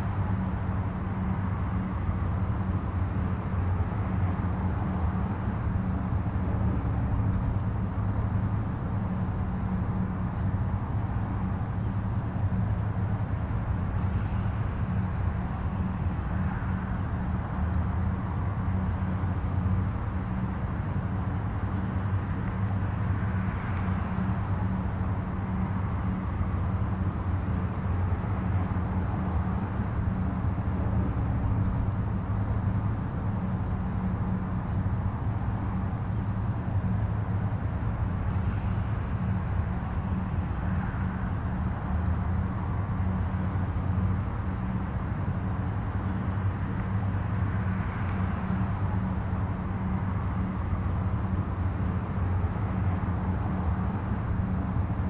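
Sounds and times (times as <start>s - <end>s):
distant highway traffic: 0.0s - 55.0s
vehicles passing: 0.0s - 55.0s.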